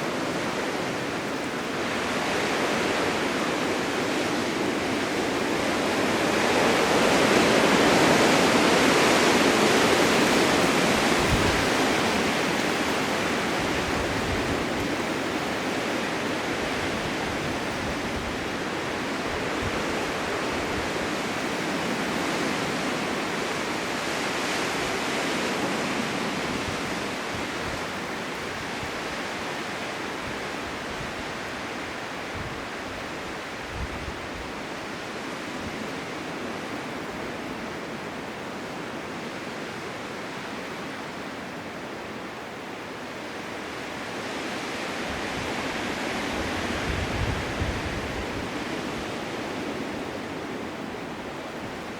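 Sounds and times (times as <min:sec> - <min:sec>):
blizzard wind rushing hiss: 0:00.0 - 0:51.9.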